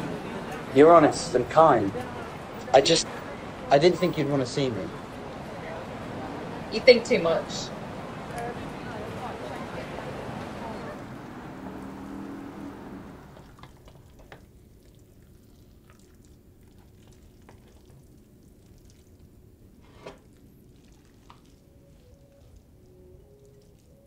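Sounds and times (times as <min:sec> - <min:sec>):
wash of noise: 0:00.0 - 0:24.0.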